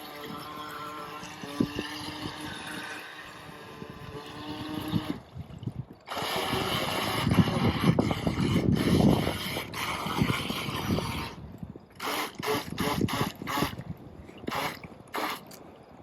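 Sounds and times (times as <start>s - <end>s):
toy boat motor humming: 0.0s - 15.6s.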